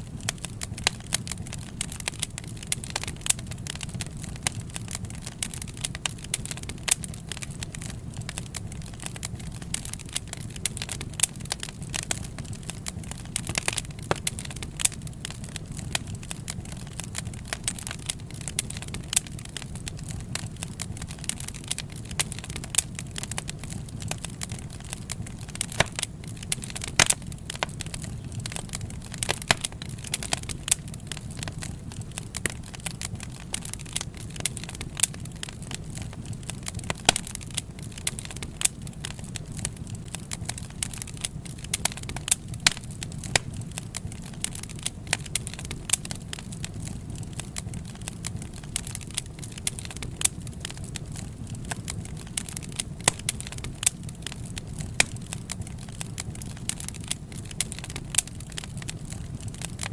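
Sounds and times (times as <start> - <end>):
burning logs crackling and popping: 0.0 - 59.9
low rumble of flames: 0.0 - 59.9.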